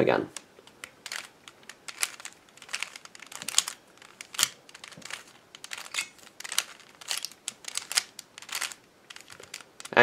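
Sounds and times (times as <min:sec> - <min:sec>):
speed cube clacking turns: 0:00.3 - 0:10.0.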